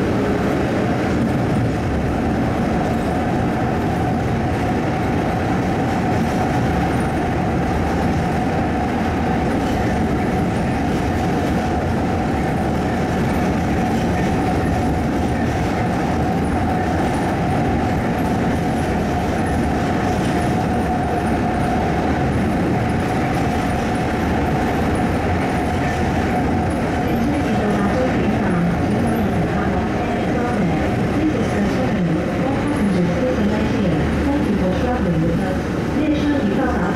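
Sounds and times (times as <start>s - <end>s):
constant train whine: 0.0s - 36.9s
shuttle train rumbling in tunnel: 0.0s - 36.9s.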